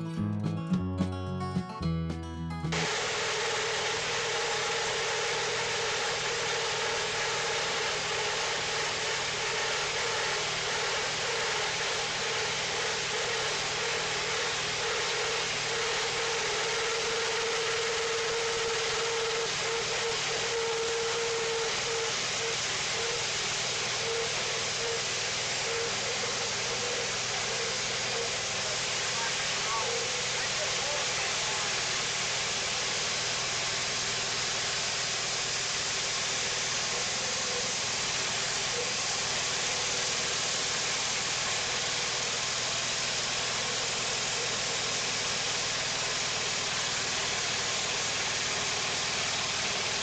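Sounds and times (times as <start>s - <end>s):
sawmill engine drone: 2.7s - 50.0s.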